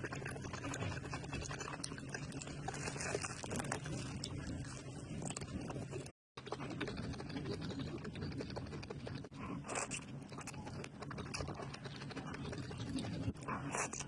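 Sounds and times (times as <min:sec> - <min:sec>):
wet chewing and crunching: 0:00.0 - 0:14.0.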